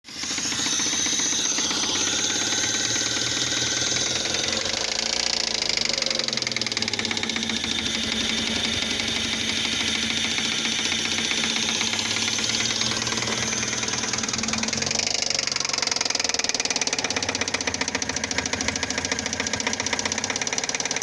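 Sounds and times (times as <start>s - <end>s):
engine running with rapid knocking: 0.0s - 21.0s.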